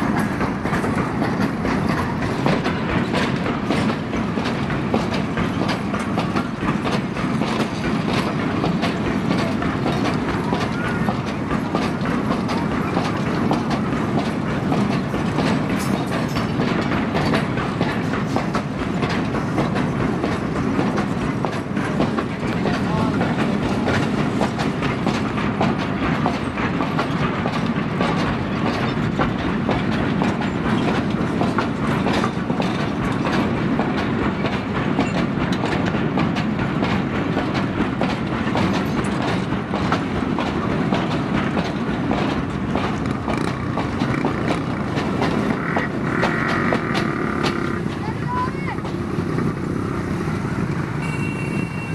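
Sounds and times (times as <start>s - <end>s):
clickety-clack over rail joints: 0.0s - 51.9s
train wheels rumbling on rail: 0.0s - 51.9s.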